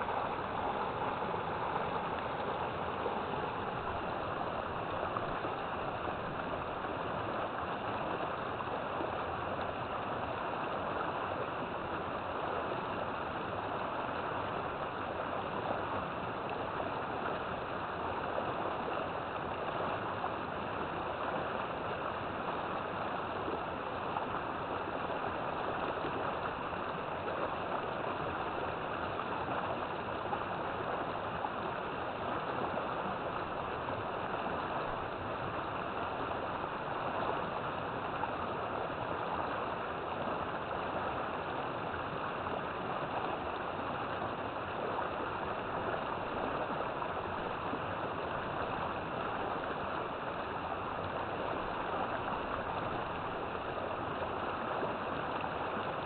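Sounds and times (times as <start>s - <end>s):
river water rushing and gurgling: 0.0s - 56.0s.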